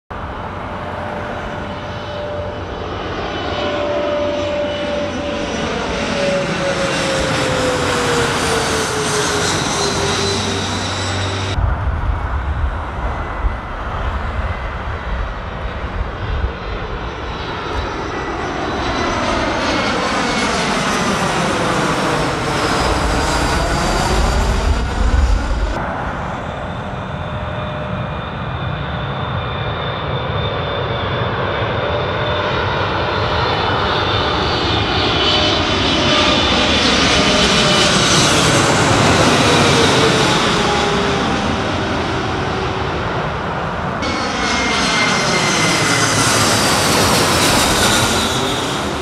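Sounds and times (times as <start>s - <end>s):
jet engines roaring: 0.1s - 49.0s
jet whine gliding down in pitch: 0.1s - 49.0s.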